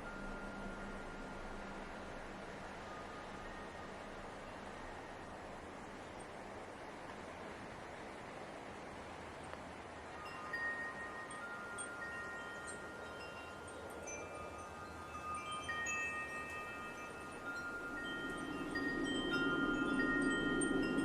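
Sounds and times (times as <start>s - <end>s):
wind chimes ringing: 0.0s - 6.4s, 10.1s - 21.0s
light wind blowing: 0.0s - 21.0s.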